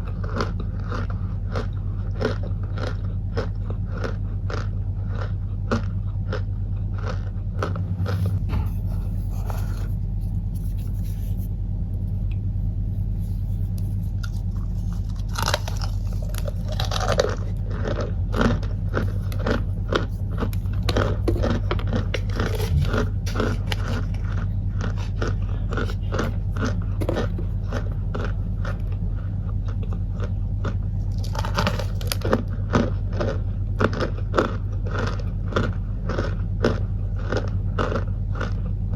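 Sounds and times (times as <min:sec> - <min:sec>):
steady low hum: 0:00.0 - 0:38.9
starch crunching: 0:07.0 - 0:38.6.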